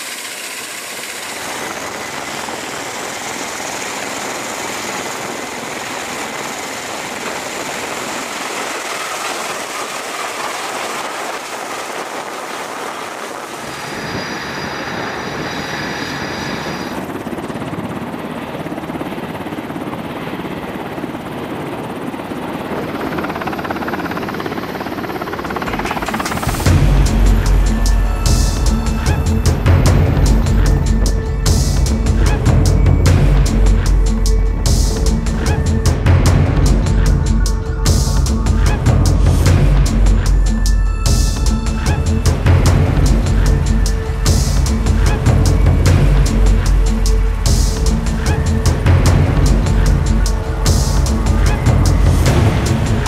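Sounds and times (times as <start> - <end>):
helicopter rotors turning: 0.0 - 53.0
tiltrotor aircraft engines: 0.0 - 53.0.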